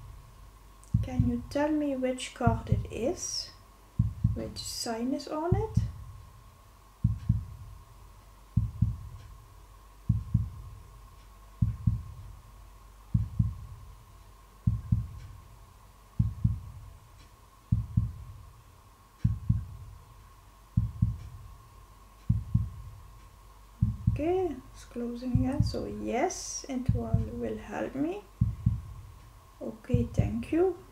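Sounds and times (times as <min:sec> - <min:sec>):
faint steady tone: 0:00.0 - 0:30.9
heartbeat thumps: 0:00.0 - 0:30.9.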